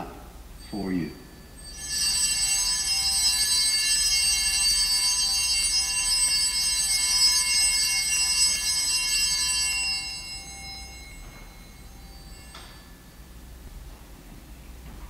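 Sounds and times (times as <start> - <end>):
altar bells jingling: 0.6 - 13.8.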